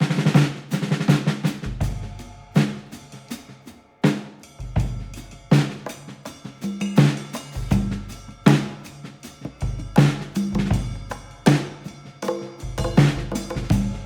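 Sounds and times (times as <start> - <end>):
drum kit: 0.0 - 14.0.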